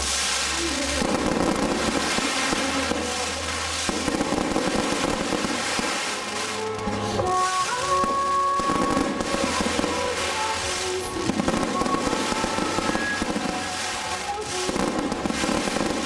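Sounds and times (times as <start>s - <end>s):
fireworks crackling and popping: 0.0s - 16.0s
music: 0.0s - 16.0s.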